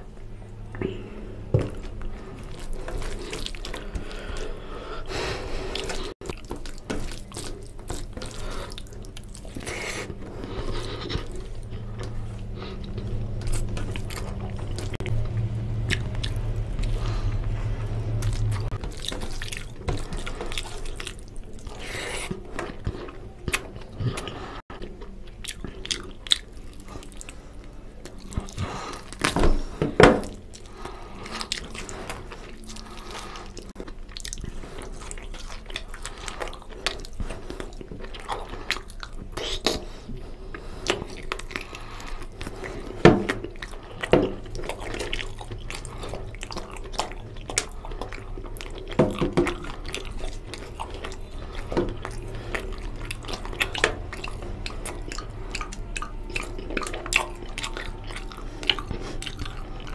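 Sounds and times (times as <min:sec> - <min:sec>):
person chewing: 0:00.7 - 0:59.9.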